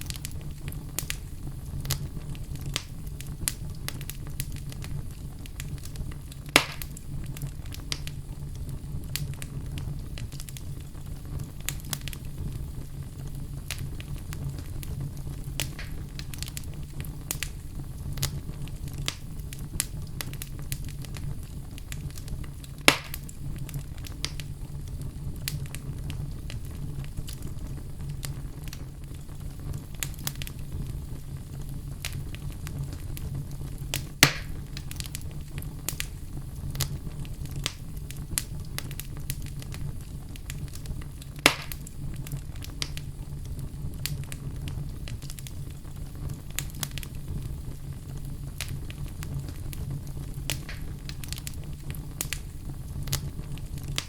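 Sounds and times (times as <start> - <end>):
fire snaps and pops: 0.0 - 54.0
wood fire crackling: 0.0 - 54.0.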